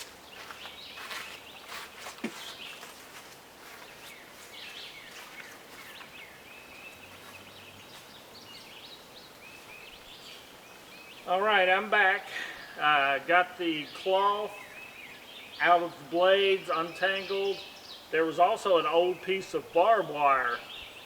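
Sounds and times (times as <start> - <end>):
birds chirping: 0.0 - 21.0
faint outdoor background hiss: 0.0 - 21.0.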